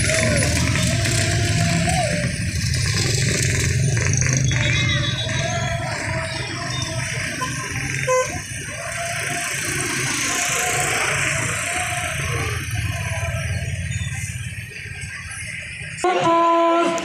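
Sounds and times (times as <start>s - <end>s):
car and motorbike engines passing: 0.0s - 17.0s.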